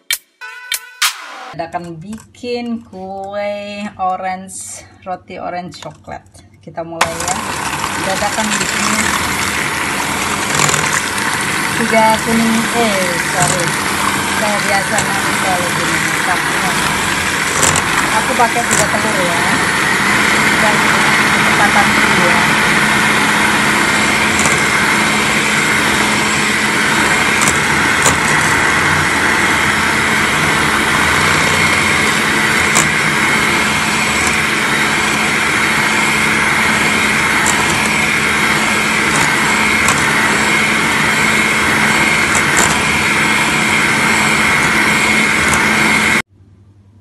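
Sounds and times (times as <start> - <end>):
electric hand mixer whisking: 7.0 - 46.3.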